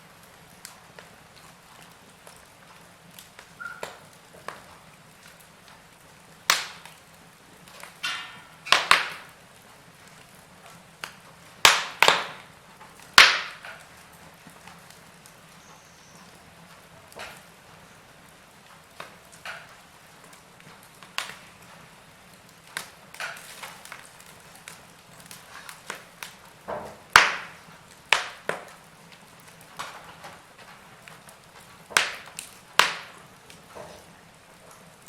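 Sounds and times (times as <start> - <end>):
faint steady hiss: 0.0 - 35.0
wood fire crackling: 0.0 - 35.0.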